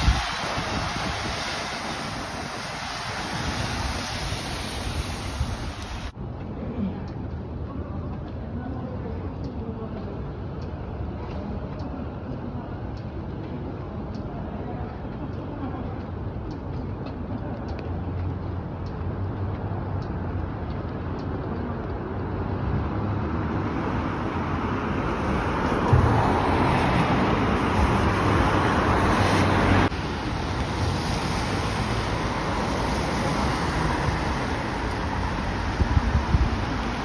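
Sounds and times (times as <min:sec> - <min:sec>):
storm wind buffeting microphone: 0:00.0 - 0:18.8, 0:23.4 - 0:37.0.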